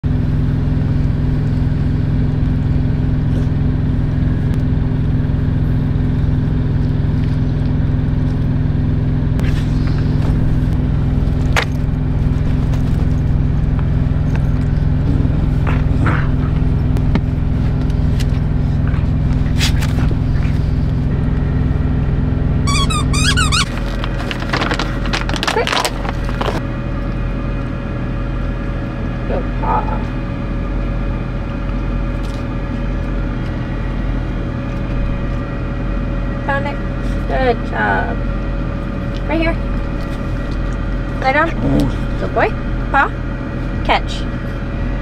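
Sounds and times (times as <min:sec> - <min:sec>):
diesel engine idling hum: 0:00.0 - 0:45.0.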